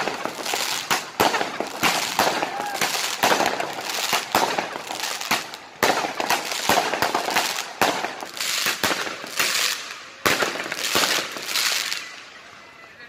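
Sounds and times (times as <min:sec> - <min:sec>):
fireworks bangs: 0:00.0 - 0:12.4
fireworks crackle: 0:00.0 - 0:12.6.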